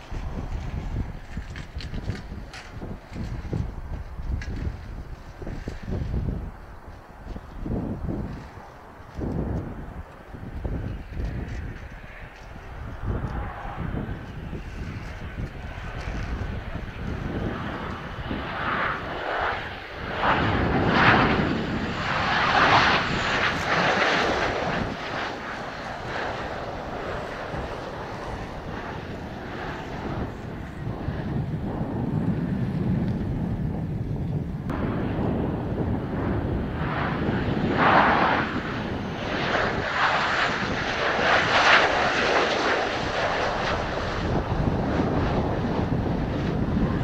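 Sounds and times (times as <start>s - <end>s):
jet engine roar: 0.0s - 47.0s.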